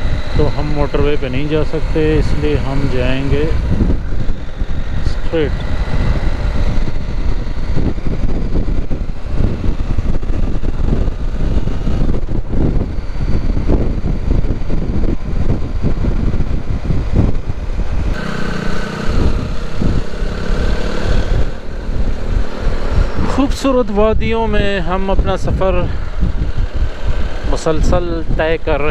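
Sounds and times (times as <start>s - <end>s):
motorcycle engine hum: 0.0s - 28.9s
wind rumble on microphone: 0.0s - 28.9s.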